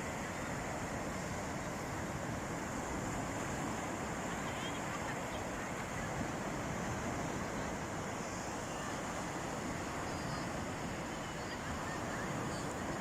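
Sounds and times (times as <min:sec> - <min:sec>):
sea surf washing on a beach: 0:00.0 - 0:13.0
wind buffeting the microphone: 0:00.0 - 0:13.0.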